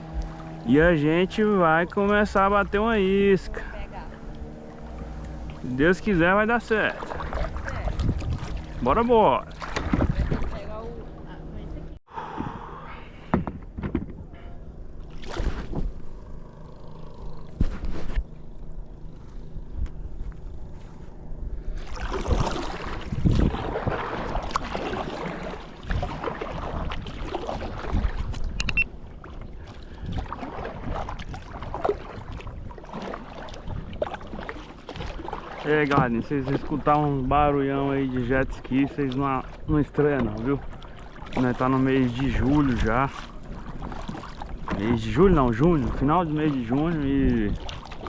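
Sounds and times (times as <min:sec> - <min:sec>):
jet ski engine running: 0:00.0 - 0:48.0.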